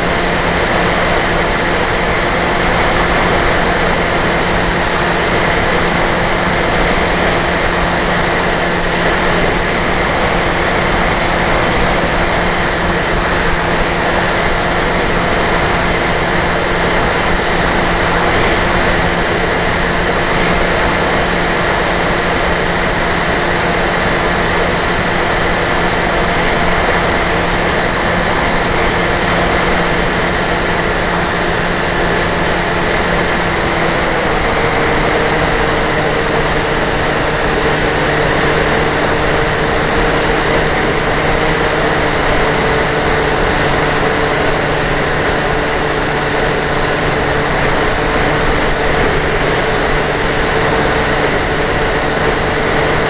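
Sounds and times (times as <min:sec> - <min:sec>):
model plane electric motor: 0:00.0 - 0:53.0.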